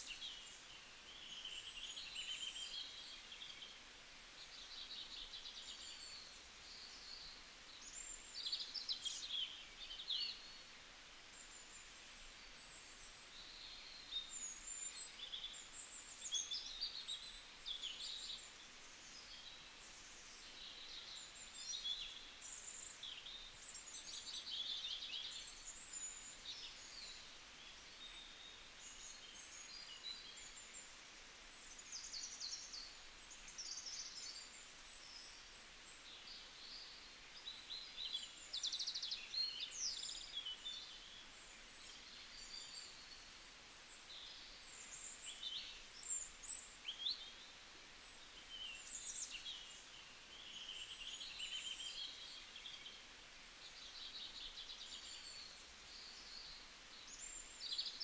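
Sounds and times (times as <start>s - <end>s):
faint background hiss: 0.0s - 58.0s
small birds chirping: 0.0s - 58.0s.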